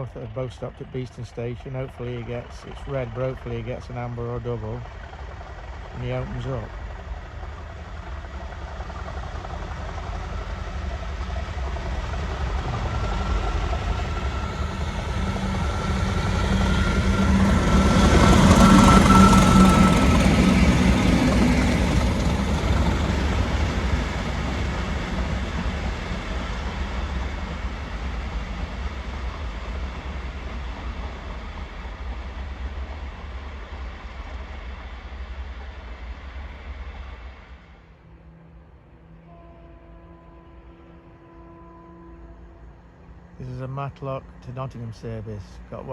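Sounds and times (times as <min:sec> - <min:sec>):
steady engine whine: 0:00.0 - 0:39.3, 0:40.4 - 0:45.9
diesel train passing: 0:00.0 - 0:45.9
rail noise: 0:00.0 - 0:45.9.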